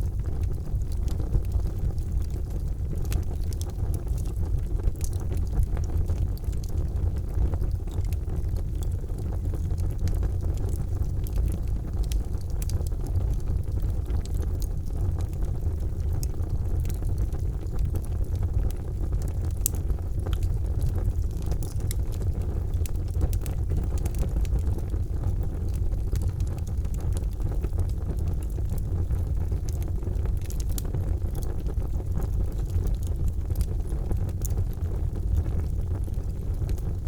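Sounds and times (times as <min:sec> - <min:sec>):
charcoal fire crackling: 0:00.0 - 0:37.0.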